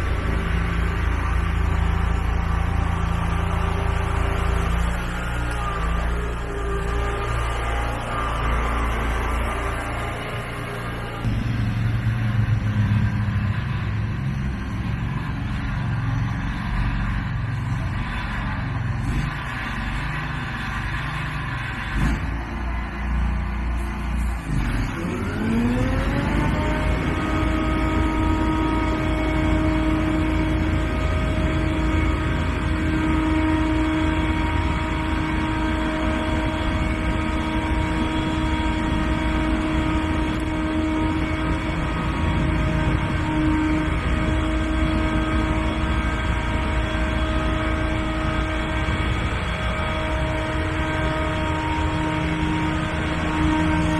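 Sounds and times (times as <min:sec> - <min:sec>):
blower engine whining: 0:00.0 - 0:53.9.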